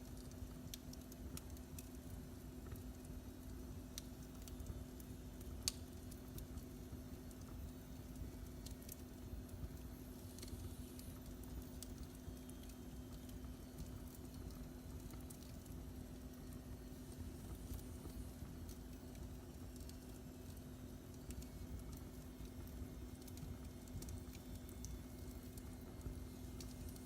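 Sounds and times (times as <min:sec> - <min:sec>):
steady low hum: 0:00.0 - 0:27.0
wood fire crackling: 0:00.0 - 0:27.0.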